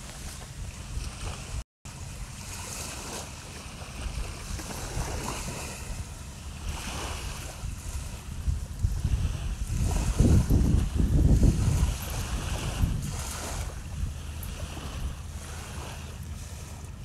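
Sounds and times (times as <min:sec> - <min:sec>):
small waves washing: 0:00.0 - 0:17.0
wind buffeting microphone: 0:00.0 - 0:17.0.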